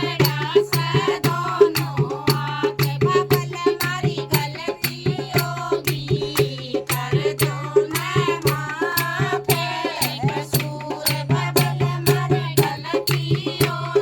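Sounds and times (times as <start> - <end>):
sharp percussion strikes: 0.0 - 14.0.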